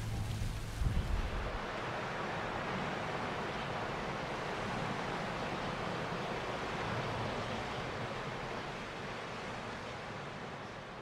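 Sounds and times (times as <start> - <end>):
sea surf washing: 0.0 - 10.5.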